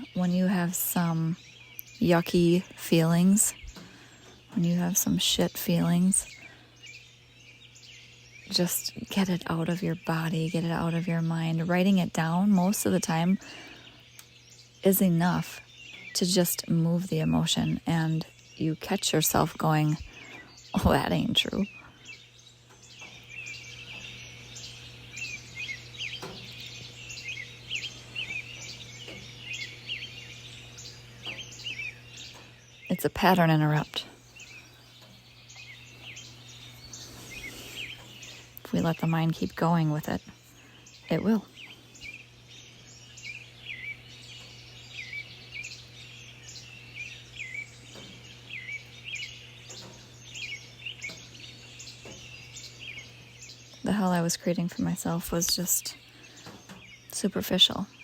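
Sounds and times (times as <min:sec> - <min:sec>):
songbirds chirping and trilling: 0:00.0 - 0:58.0
steady low hum: 0:00.0 - 0:58.0.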